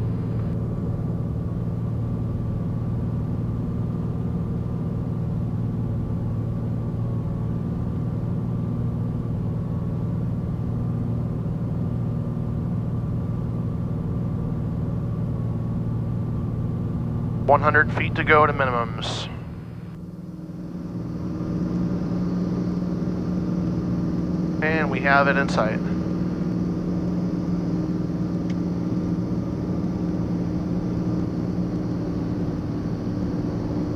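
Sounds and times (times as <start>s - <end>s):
aircraft engine and propeller drone: 0.0s - 33.9s.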